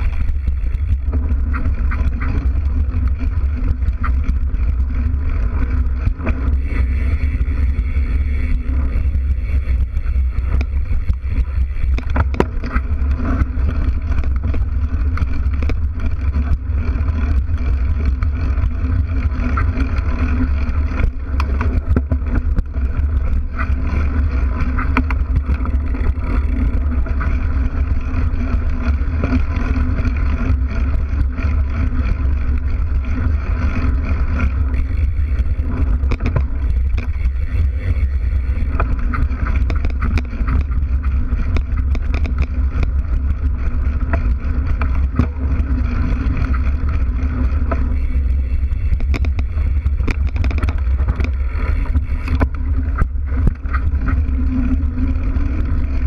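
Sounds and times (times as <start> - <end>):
bike knocks and rattles: 0.0 - 56.0
bike tyre rumble on dirt: 0.0 - 56.0.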